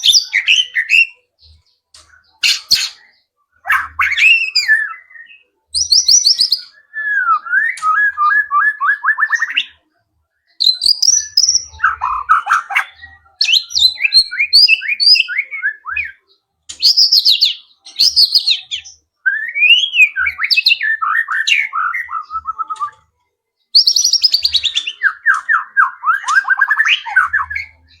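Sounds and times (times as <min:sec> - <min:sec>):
bird singing trills and whistles: 0:00.0 - 0:09.8, 0:10.4 - 0:28.0.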